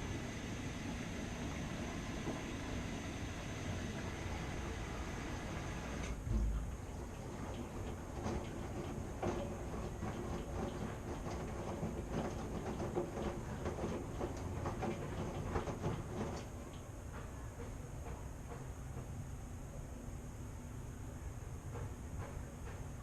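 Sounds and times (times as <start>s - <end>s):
washing machine running: 0.0s - 18.9s.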